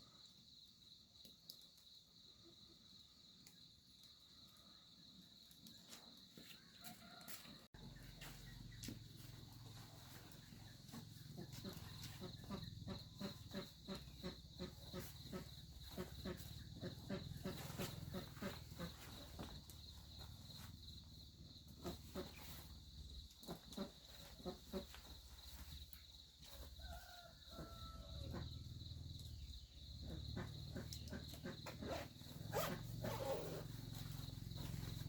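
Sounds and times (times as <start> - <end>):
crickets chirring: 0.0 - 35.0.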